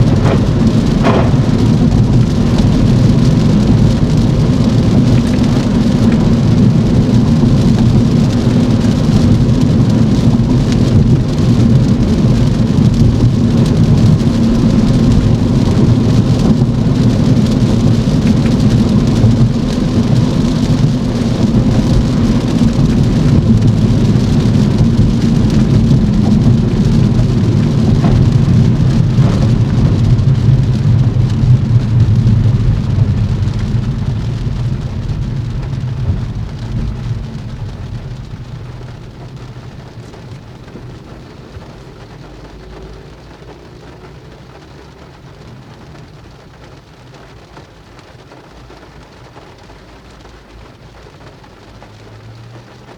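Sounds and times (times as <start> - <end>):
low rumble: 0.0 - 46.2
rain: 0.0 - 52.9
tyre noise on wet road: 0.0 - 52.9.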